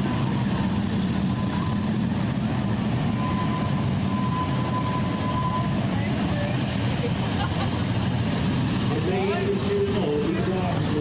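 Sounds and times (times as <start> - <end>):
motorcycle engines running slowly: 0.0 - 11.0.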